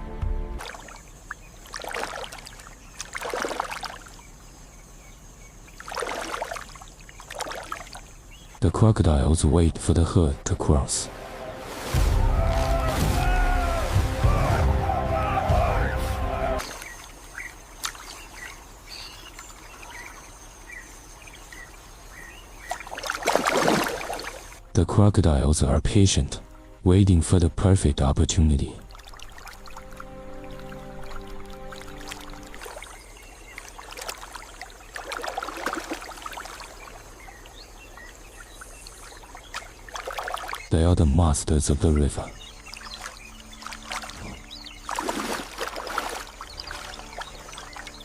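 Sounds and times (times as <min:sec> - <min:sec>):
river water splashing: 0:00.1 - 0:08.6, 0:10.7 - 0:24.6, 0:28.8 - 0:40.7, 0:42.3 - 0:48.0.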